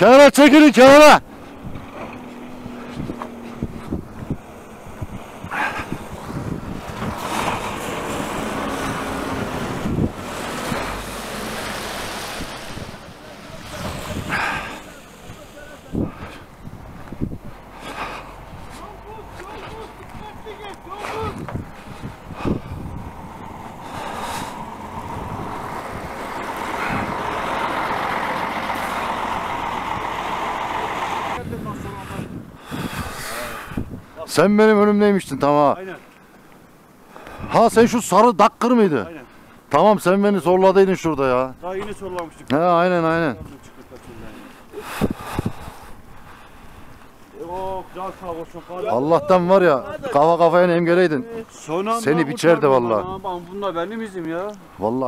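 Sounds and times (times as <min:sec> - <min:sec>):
vehicle road and engine noise: 0:00.0 - 0:55.0
wind buffeting microphone: 0:01.2 - 0:34.3, 0:36.7 - 0:38.0, 0:40.8 - 0:50.8.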